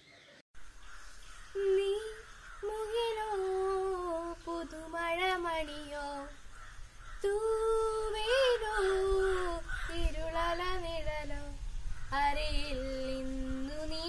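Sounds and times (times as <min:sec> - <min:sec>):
girl singing unaccompanied: 0:01.5 - 0:06.4, 0:07.2 - 0:14.0.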